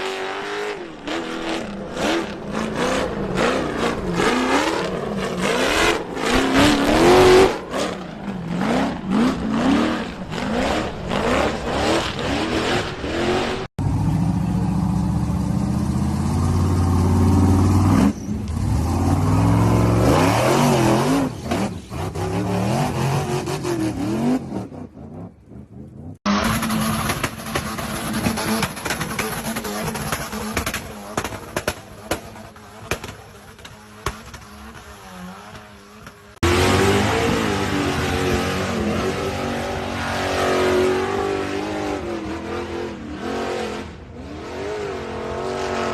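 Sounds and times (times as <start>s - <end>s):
off-road engines revving: 0.0s - 45.9s.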